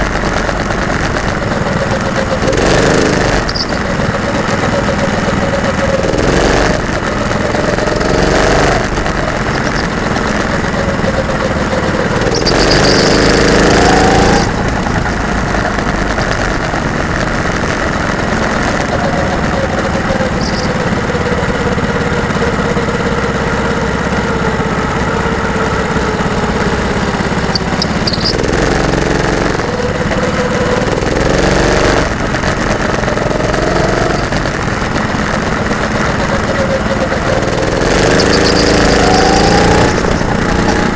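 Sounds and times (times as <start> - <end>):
go-kart engine: 0.0 - 40.9.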